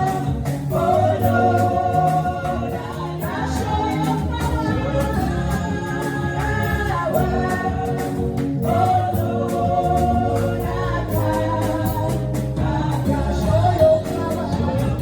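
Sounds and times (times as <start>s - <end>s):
choir singing held notes: 0.0s - 15.0s
instrumental backing with beat: 0.0s - 15.0s.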